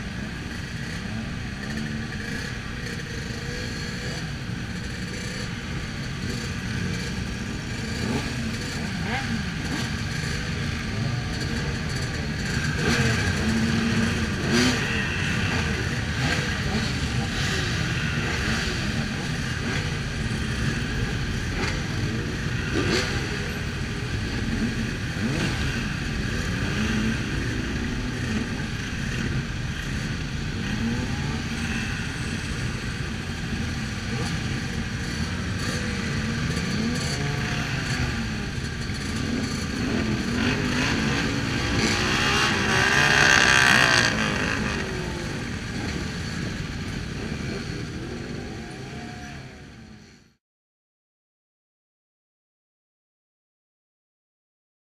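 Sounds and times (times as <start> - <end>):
motorcycle engines running: 0.0 - 50.4.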